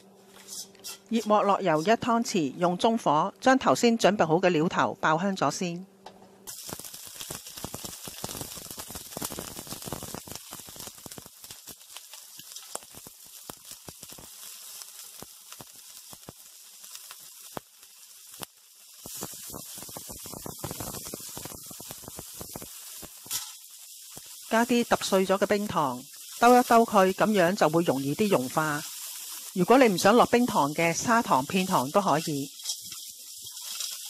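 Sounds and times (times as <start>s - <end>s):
spices sizzling in hot oil: 0.3s - 2.7s, 6.4s - 34.0s.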